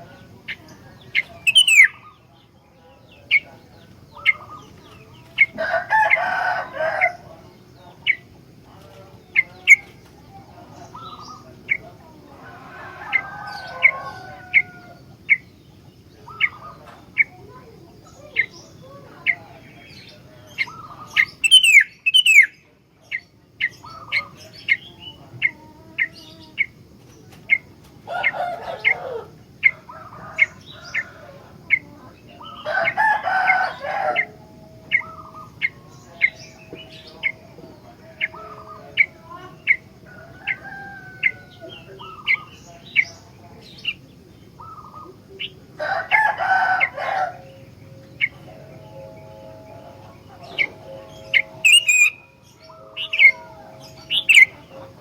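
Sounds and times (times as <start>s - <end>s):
bird chirping: 0.0s - 6.2s, 13.1s - 26.8s, 28.8s - 45.7s, 46.8s - 55.0s
bird call phrases: 0.0s - 55.0s.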